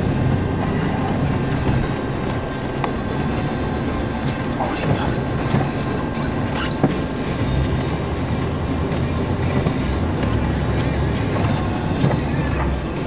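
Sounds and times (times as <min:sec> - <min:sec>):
vehicle rumble from inside cabin: 0:00.0 - 0:13.0.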